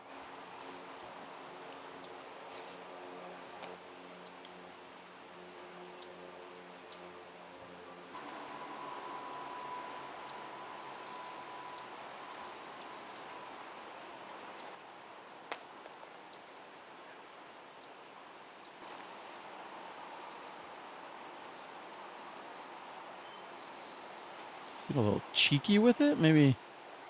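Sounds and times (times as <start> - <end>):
background hiss: 0.0 - 27.0.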